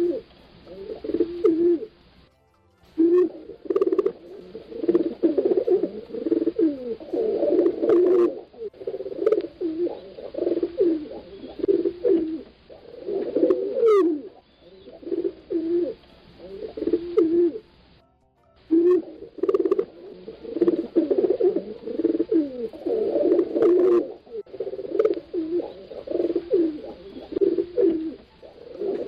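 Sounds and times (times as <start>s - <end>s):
pigeons cooing: 0.0s - 2.1s, 3.0s - 17.8s, 18.7s - 29.0s.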